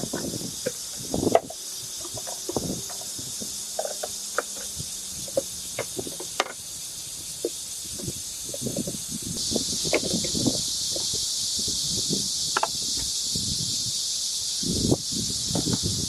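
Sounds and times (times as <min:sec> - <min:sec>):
high-pitched outdoor hiss: 0:00.0 - 0:16.0.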